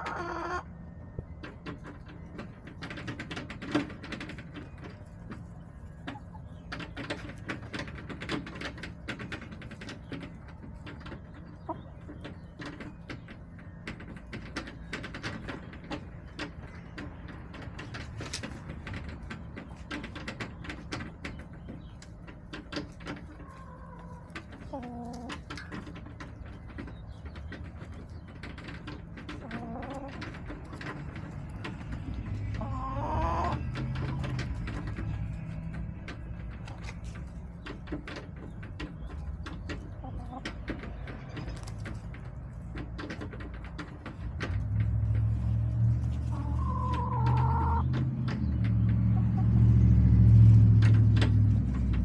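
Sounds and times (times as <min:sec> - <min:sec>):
hens tapping and clicking: 0:00.0 - 0:52.0.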